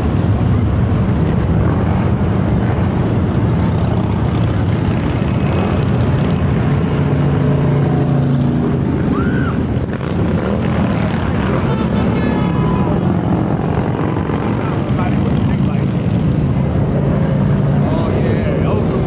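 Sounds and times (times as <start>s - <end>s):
motorcycle engines rumbling: 0.0s - 19.0s
motorcycles accelerating: 0.0s - 19.0s.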